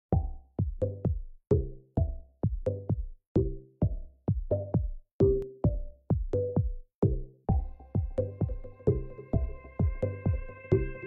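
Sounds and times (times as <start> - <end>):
electronic beat with ringing hits: 0.1 - 11.0.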